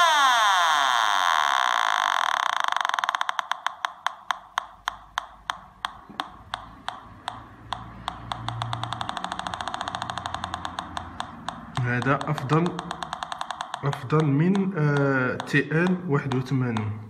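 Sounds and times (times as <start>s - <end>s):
metal detector ticking clicks: 2.5s - 16.9s.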